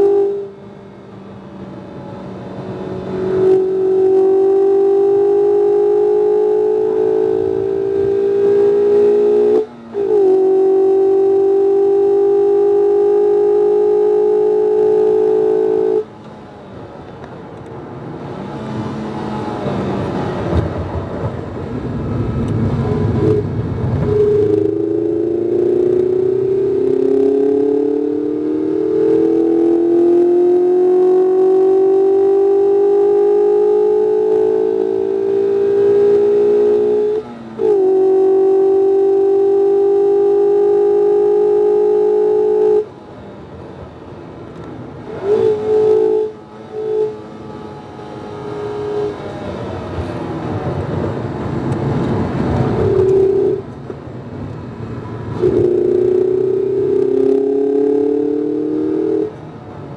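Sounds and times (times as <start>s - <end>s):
car engine pulling hard: 0.0s - 59.9s
rumbling road noise: 0.0s - 59.9s.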